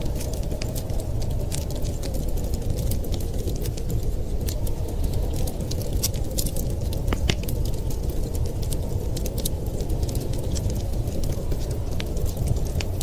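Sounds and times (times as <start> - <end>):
low fire rumble: 0.0 - 13.0
wood fire crackling and popping: 0.0 - 13.0.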